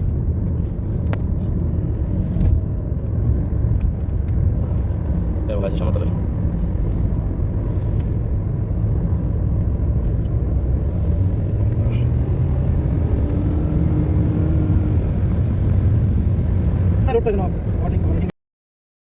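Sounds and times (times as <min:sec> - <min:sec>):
car engine and tyre rumble: 0:00.0 - 0:18.3.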